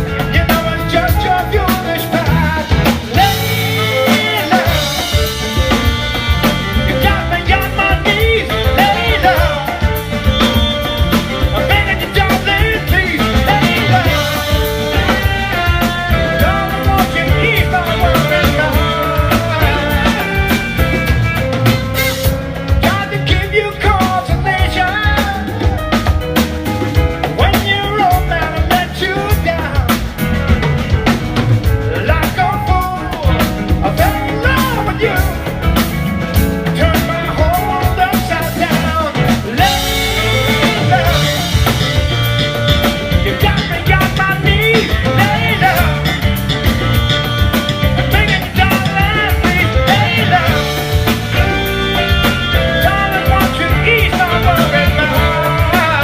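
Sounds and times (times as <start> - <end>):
live band playing upbeat song: 0.0 - 56.0.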